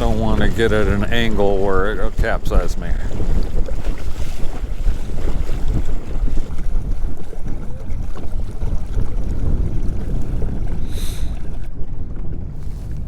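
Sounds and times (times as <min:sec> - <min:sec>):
water splashing against kayak hull: 0:00.0 - 0:13.0
wind buffeting microphone: 0:00.0 - 0:13.0.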